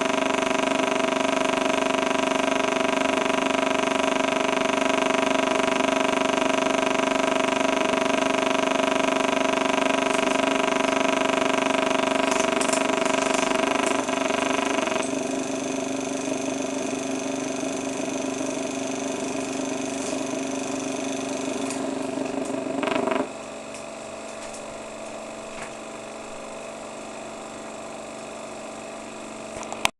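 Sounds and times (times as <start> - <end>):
film projector motor hum: 0.0 - 29.9.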